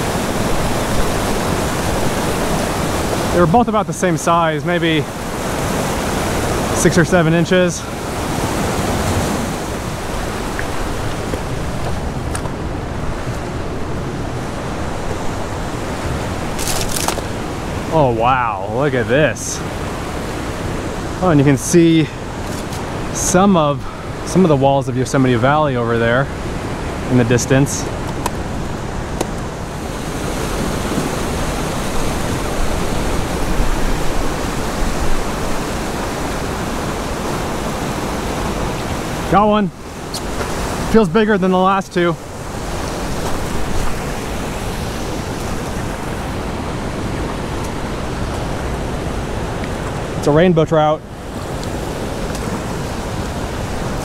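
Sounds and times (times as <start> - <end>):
water rushing over cascade: 0.0 - 54.0.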